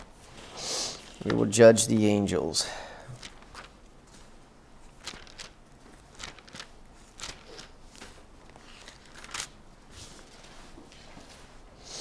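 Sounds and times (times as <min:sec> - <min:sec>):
pages turning: 0:00.2 - 0:02.0, 0:03.2 - 0:11.4.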